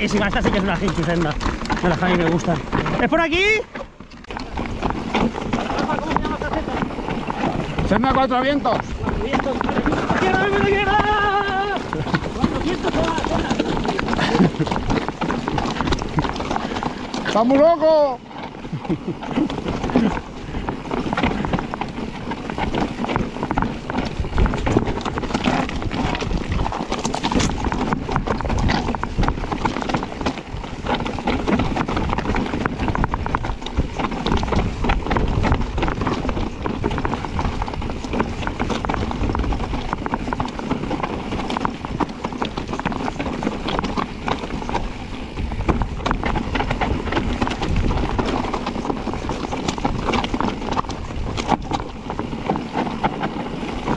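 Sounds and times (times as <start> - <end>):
bike rattling over rocks: 0.0 - 53.9
wind on microphone: 0.0 - 53.9.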